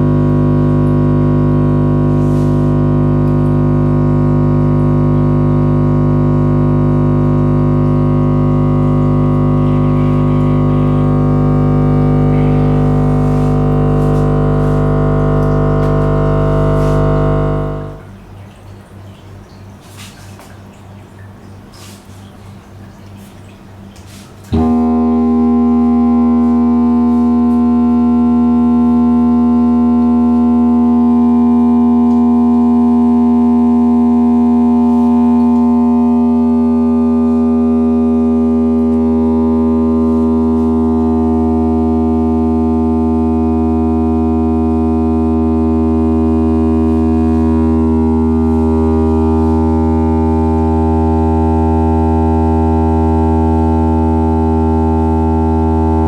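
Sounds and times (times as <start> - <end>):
electronic test tone: 0.0 - 18.2, 24.5 - 56.0.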